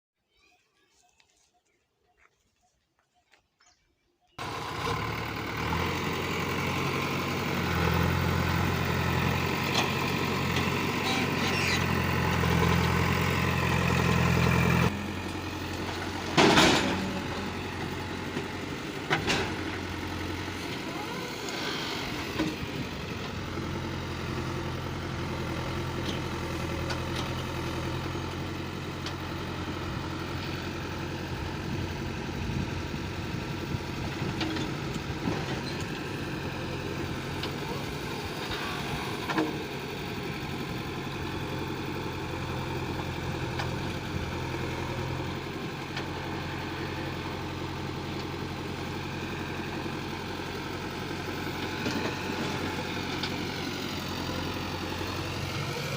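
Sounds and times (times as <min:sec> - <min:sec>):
diesel engine running: 0:04.4 - 0:55.9.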